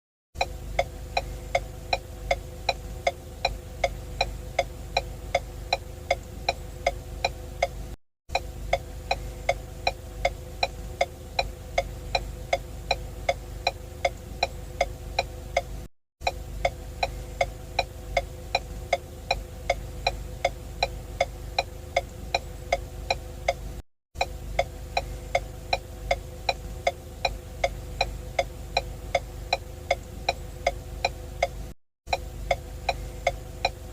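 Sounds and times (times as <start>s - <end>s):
low hum: 0.4s - 33.9s
turn signal ticking: 0.4s - 33.9s.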